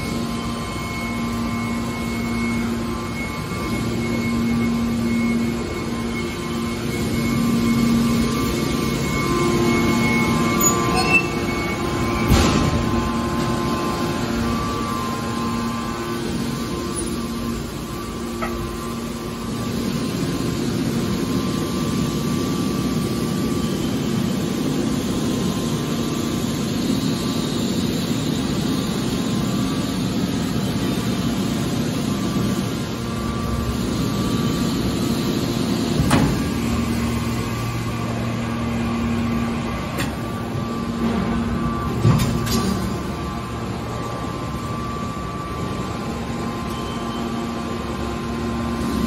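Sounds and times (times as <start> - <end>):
hydraulic pump and motor drone: 0.0 - 49.0.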